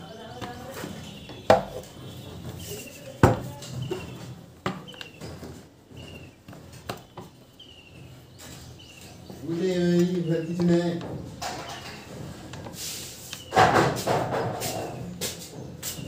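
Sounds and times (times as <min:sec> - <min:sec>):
bird chirping: 0:00.0 - 0:12.5, 0:13.2 - 0:16.0.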